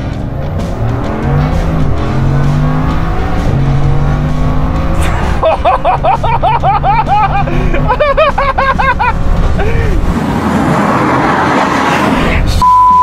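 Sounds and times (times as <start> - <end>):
car engine accelerating hard: 0.0 - 12.6.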